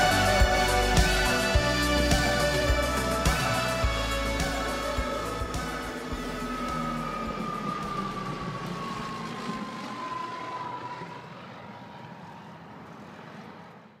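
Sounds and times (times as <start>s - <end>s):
propeller plane passing overhead: 0.0s - 14.0s.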